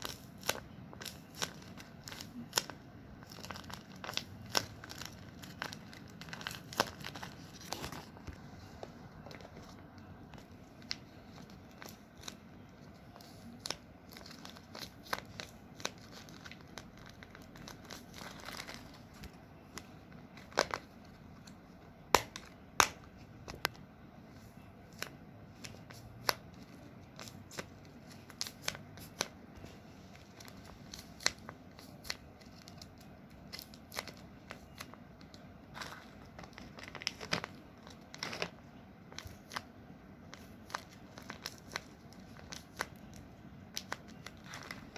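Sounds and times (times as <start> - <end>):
paper and tape crinkling: 0.0 - 23.6, 24.3 - 44.9.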